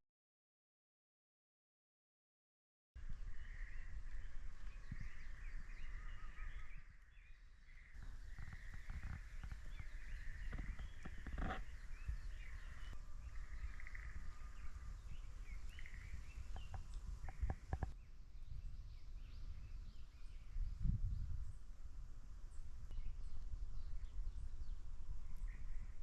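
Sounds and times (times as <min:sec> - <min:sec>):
small birds chirping: 0:03.0 - 0:21.7, 0:22.5 - 0:26.0.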